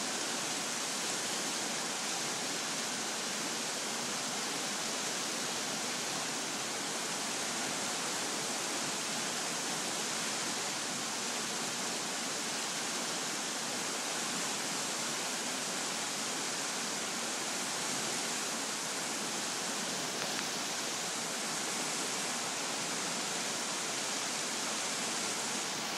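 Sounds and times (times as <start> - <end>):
creek water rushing: 0.0 - 25.9.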